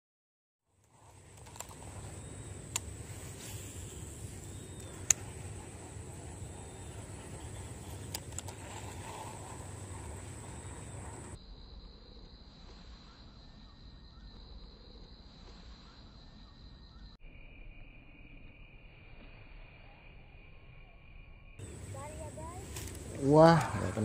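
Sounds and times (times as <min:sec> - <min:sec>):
outdoor background noise: 0:00.6 - 0:24.0
high-pitched insect trill: 0:01.0 - 0:24.0.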